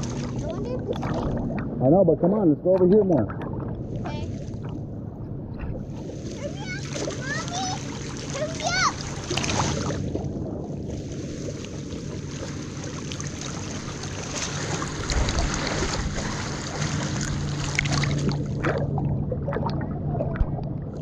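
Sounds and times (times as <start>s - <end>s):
lake water sloshing and lapping: 0.0s - 21.0s.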